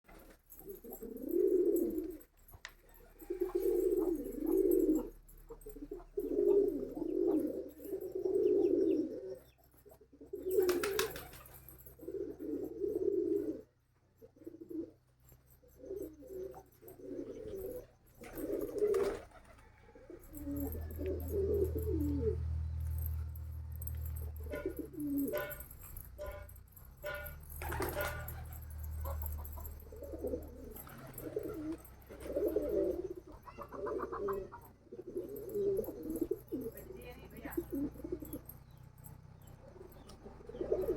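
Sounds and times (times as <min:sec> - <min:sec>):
pigeons cooing: 0:00.1 - 0:40.9.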